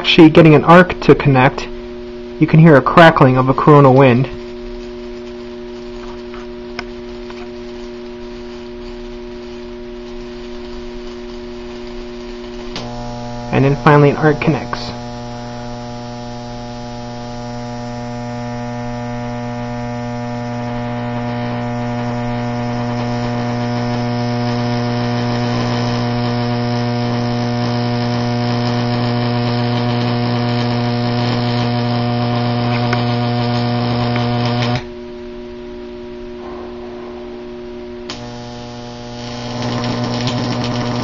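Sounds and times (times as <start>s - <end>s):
electric arc buzzing: 0.0s - 35.2s, 37.4s - 41.0s
faint electrical hum: 0.0s - 41.0s.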